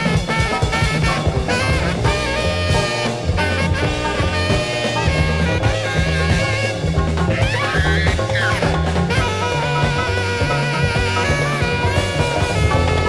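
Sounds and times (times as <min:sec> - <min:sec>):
jazz band with horns: 0:00.0 - 0:13.0.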